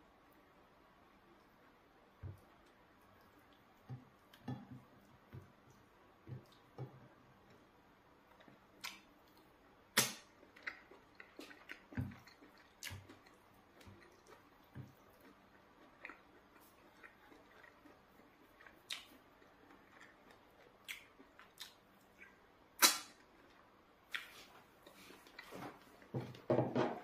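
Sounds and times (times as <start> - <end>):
man chewing with lip smacks: 2.2 - 26.1.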